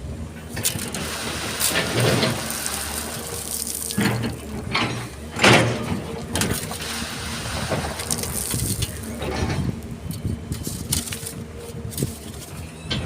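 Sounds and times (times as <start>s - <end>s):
excavator engine running: 0.0s - 13.0s
wet sand and gravel scraping: 0.4s - 13.0s.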